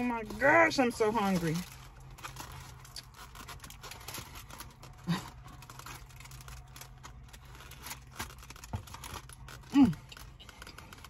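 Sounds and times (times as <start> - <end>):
crackling and crunching clicks: 0.0 - 11.0.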